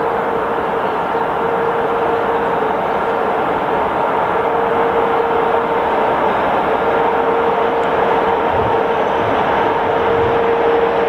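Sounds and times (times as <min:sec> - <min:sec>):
locomotive whine: 0:00.0 - 0:11.0
train rumbling: 0:00.0 - 0:11.0.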